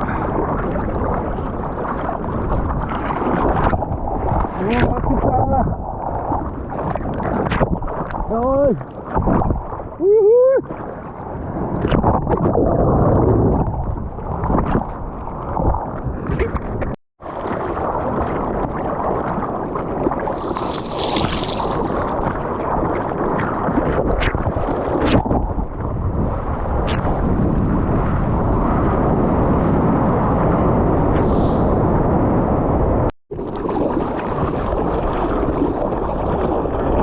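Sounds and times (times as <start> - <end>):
sea water rushing and splashing: 0.0 - 37.0
wind buffeting microphone: 0.0 - 37.0.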